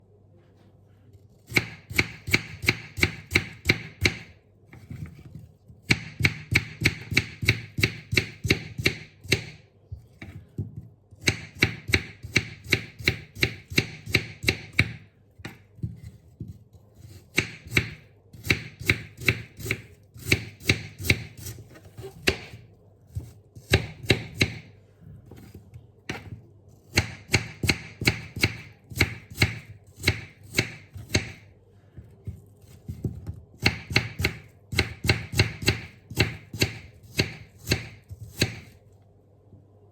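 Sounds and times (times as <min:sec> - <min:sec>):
knife chopping apples: 0:01.4 - 0:31.5, 0:32.2 - 0:38.8.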